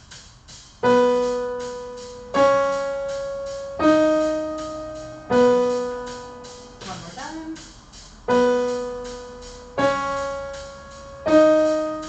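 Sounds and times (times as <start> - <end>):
piano notes: 0.8 - 12.0.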